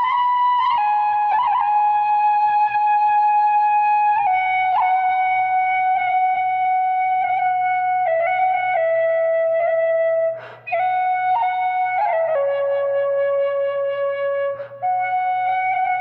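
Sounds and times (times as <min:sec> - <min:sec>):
tin whistle melody: 0:00.0 - 0:16.0.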